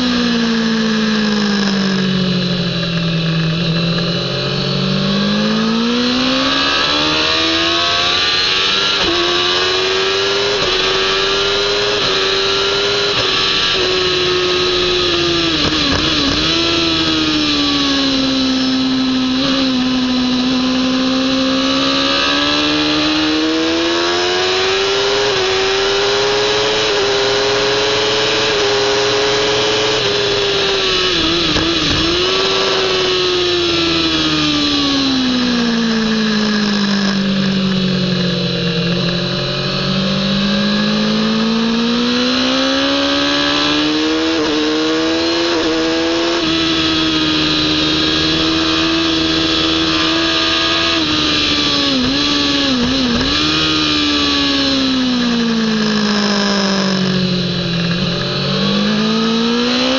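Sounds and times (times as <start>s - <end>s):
motorcycle engine revving high: 0.0s - 59.9s.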